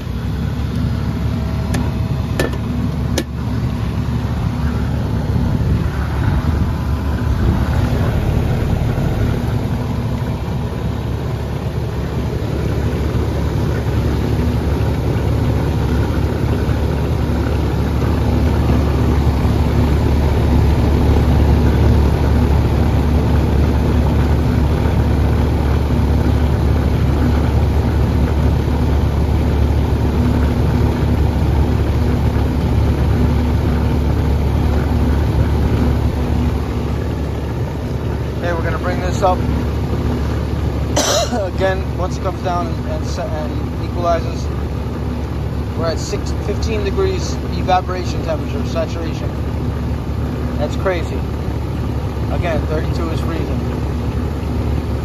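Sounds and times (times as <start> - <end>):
compressor electrical hum: 0.0 - 55.0
condenser fan air rushing: 0.0 - 55.0.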